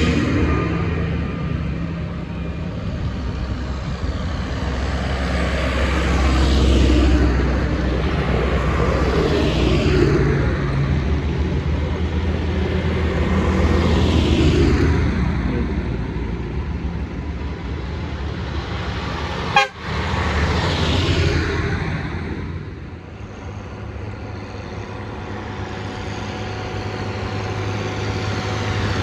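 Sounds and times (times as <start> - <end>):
tractor diesel engines passing: 0.0 - 29.0
tyres on wet road: 0.0 - 29.0.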